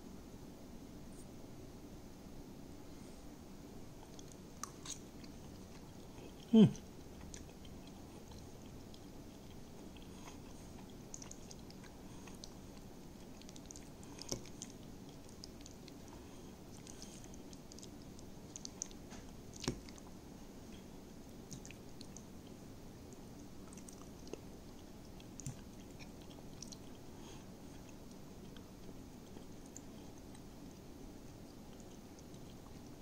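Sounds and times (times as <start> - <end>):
person chewing: 4.0 - 33.0.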